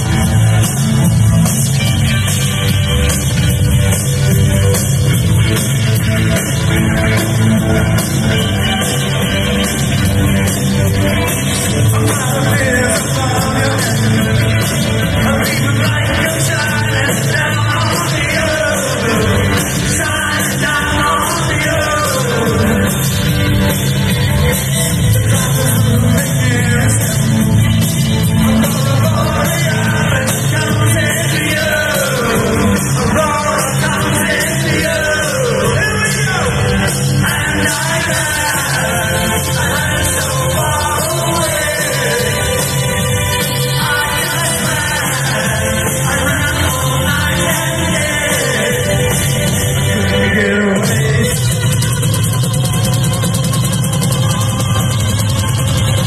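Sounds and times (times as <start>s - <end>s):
drums: 0.0s - 56.0s
rock band playing live: 0.0s - 56.0s
synthesizer: 0.0s - 56.0s
person singing lead vocal: 5.5s - 52.0s.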